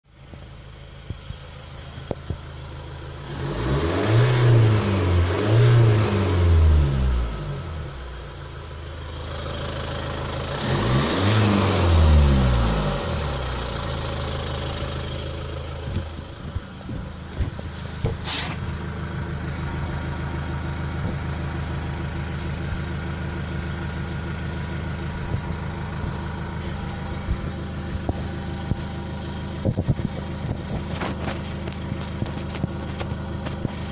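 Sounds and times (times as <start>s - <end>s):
unsilenced diesel engine revving: 1.7s - 33.9s.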